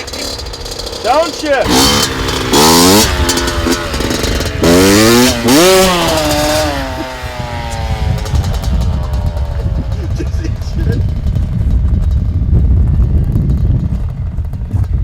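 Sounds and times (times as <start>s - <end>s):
dirt bike engine revving: 0.0s - 14.5s.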